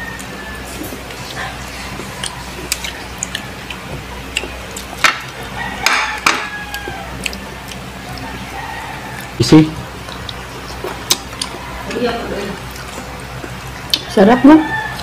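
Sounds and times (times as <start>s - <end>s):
low steady hum: 0.0s - 15.0s
wet chewing and lip smacks: 0.1s - 5.4s, 6.7s - 8.4s, 10.0s - 15.0s.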